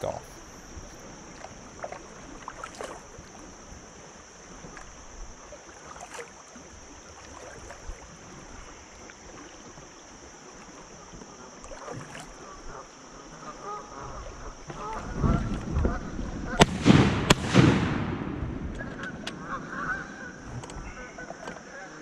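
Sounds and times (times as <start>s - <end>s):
kayak paddle strokes: 0.0s - 16.5s, 18.7s - 22.0s
light water splashes: 0.0s - 22.0s
water running past hull: 0.0s - 22.0s.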